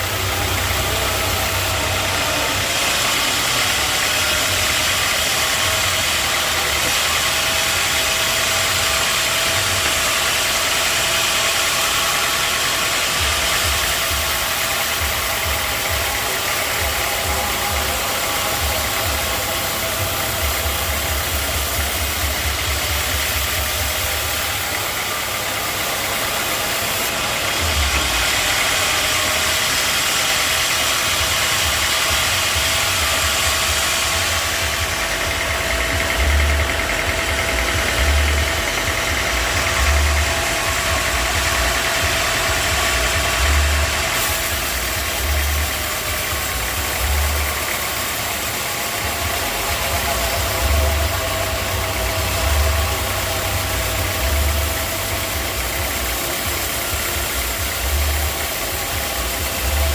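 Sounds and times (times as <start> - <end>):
sawmill machinery whine: 0.0 - 59.9.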